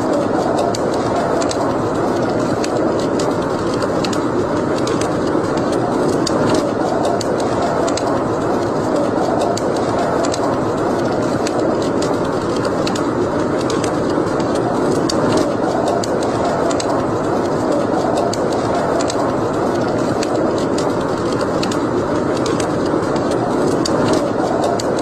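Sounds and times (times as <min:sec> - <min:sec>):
fire crackling and popping: 0:00.0 - 0:25.0
wood fire burning: 0:00.0 - 0:25.0.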